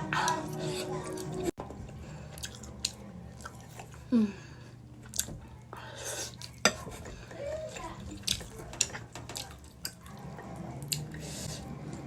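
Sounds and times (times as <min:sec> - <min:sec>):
person chewing food: 0:00.0 - 0:04.1, 0:04.7 - 0:12.0.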